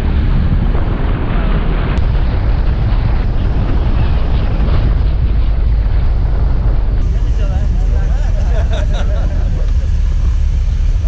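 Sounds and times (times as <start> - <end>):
vehicle low rumble: 0.0 - 11.0
wind buffeting microphone: 0.0 - 11.0.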